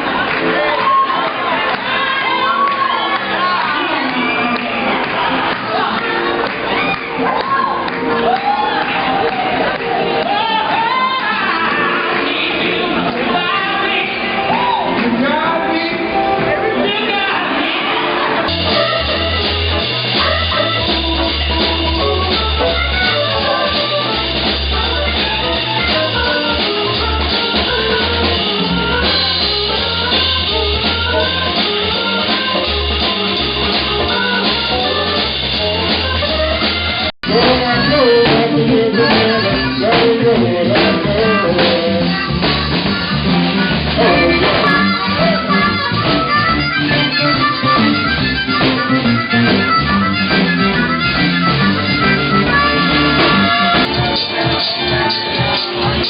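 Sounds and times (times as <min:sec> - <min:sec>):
blues band playing: 0:00.0 - 0:56.0
music: 0:00.0 - 0:56.0.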